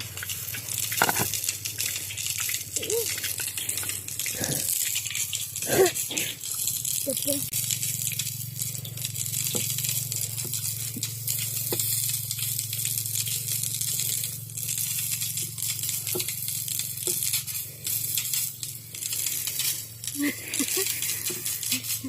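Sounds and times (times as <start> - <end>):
dough deep-frying in hot oil: 0.0 - 22.0.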